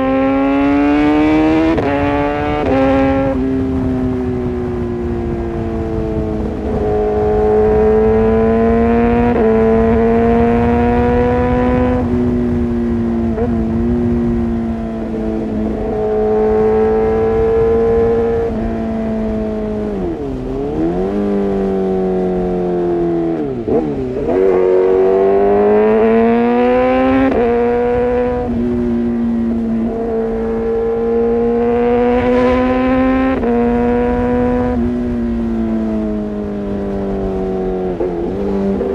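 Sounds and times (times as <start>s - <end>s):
motorcycle engine revving high: 0.0s - 38.9s.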